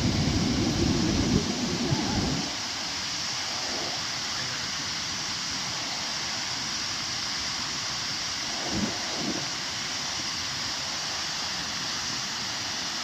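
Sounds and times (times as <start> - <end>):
waterfall rushing hiss: 0.0 - 13.0.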